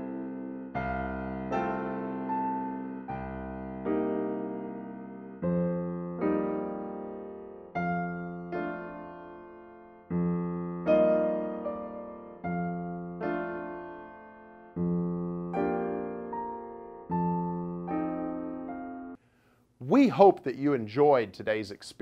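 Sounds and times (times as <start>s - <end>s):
slow keyboard chords: 0.0s - 19.2s.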